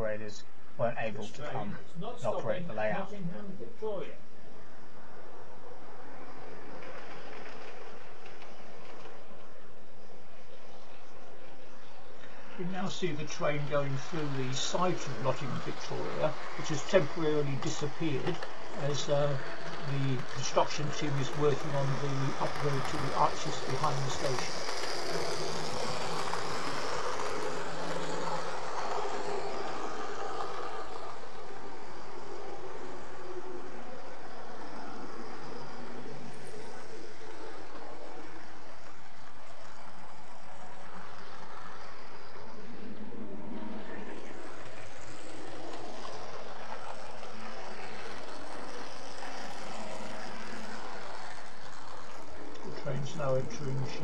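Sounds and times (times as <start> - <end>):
model trains whirring on rails: 0.0 - 54.0.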